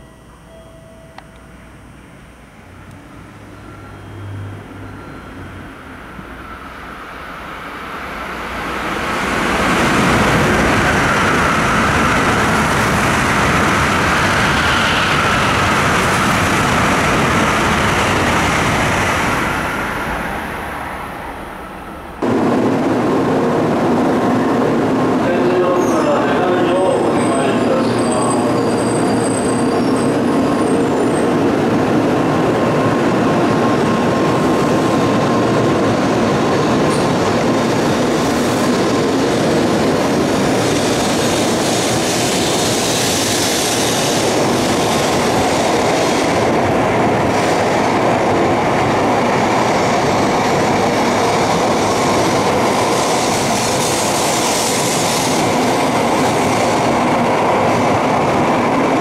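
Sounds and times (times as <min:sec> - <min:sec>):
train wheels rushing on rail: 0:04.7 - 0:59.0.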